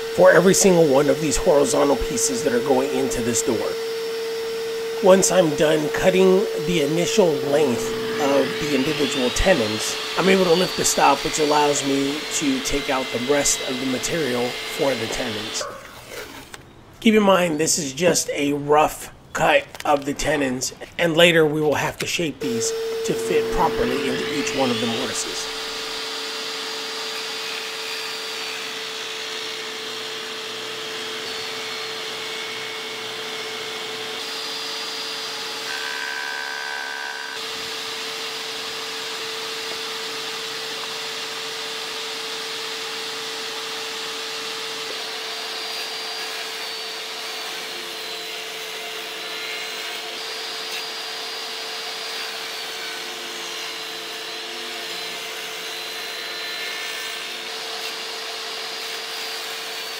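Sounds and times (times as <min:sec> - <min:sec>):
table saw cutting wood: 0:00.0 - 0:16.6, 0:19.9 - 0:59.9.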